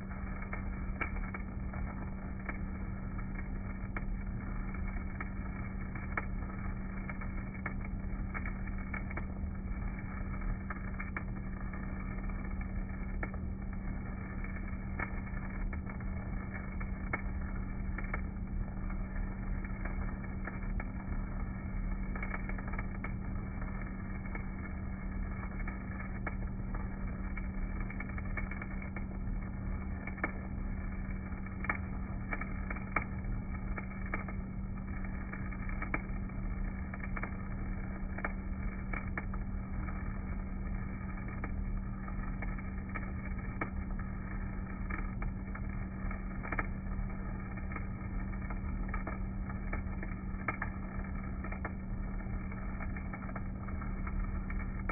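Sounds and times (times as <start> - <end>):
welding arc crackling and popping: 0.0 - 54.9
welding generator humming: 0.0 - 54.9.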